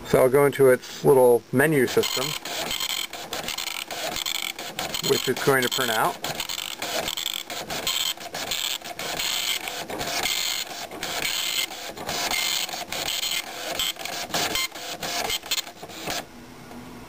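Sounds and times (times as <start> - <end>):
dot matrix printer printing: 1.8 - 16.3.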